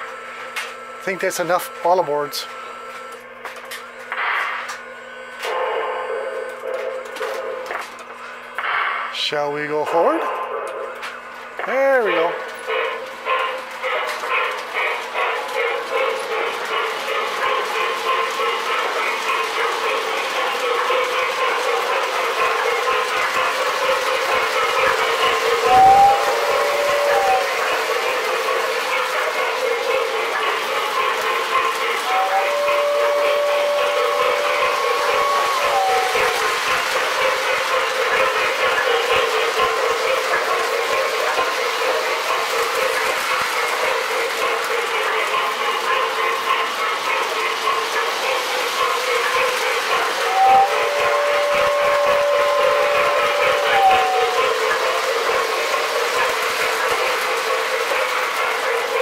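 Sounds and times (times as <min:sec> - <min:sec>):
toy train whistle: 0:04.7 - 0:08.8, 0:11.5 - 0:45.0, 0:46.4 - 0:59.0
toy train motor whir: 0:10.0 - 0:59.0.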